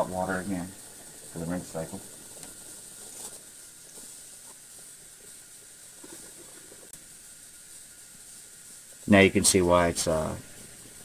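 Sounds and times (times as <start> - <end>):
faucet water running into tub: 0.0 - 11.0.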